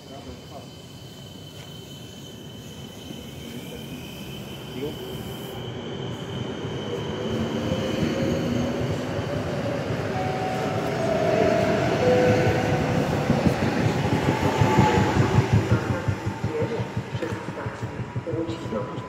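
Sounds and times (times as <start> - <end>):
electric train passing: 0.0 - 19.0
train drive whine: 0.0 - 19.0.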